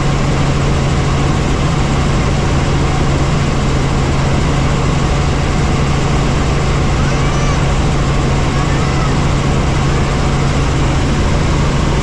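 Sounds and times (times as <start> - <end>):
helicopter rotors droning: 0.0 - 12.0.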